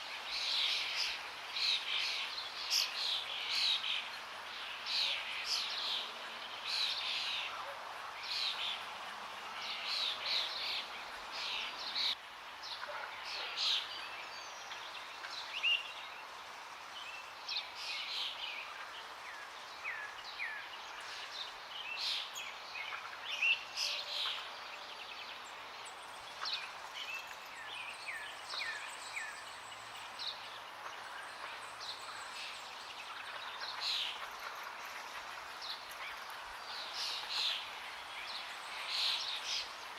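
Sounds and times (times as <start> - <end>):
flowing water: 0.0 - 39.9
songbirds chirping and whistling: 0.0 - 39.9.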